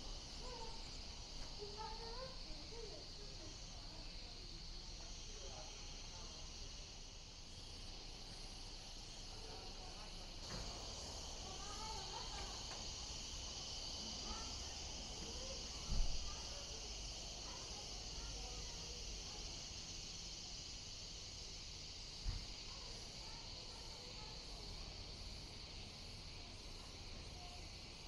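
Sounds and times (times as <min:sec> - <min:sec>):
insect chorus drone: 0:00.0 - 0:28.0.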